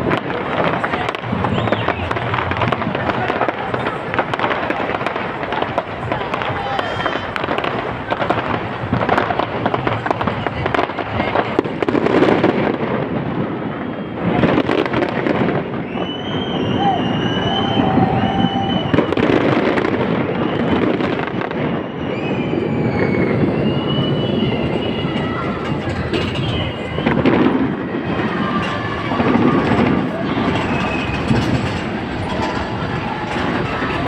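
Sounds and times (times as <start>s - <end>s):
fireworks crackling and popping: 0.0s - 34.0s
fireworks whistling: 0.0s - 34.0s.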